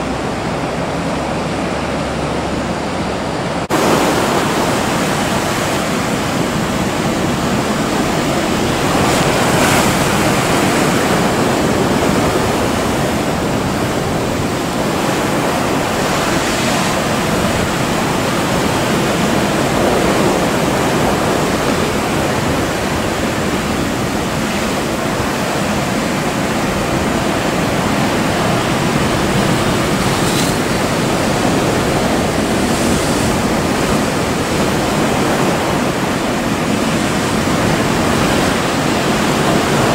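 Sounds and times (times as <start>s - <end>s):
surf breaking and churning water: 0.0s - 39.9s.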